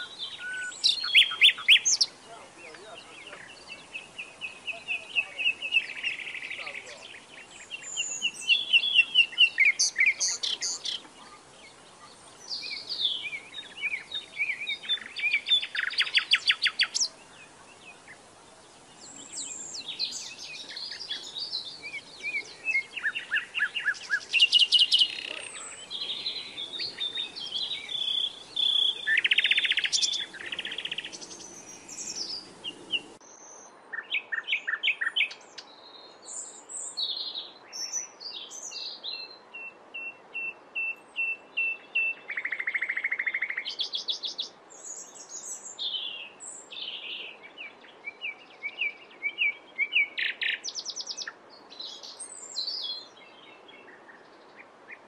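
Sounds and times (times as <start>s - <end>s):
reed warbler singing: 0.0s - 55.0s.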